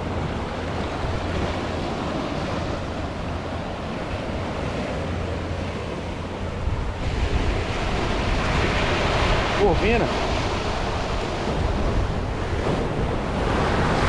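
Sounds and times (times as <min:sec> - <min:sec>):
waves breaking on rocks: 0:00.0 - 0:14.0
wind buffeting microphone: 0:00.0 - 0:14.0.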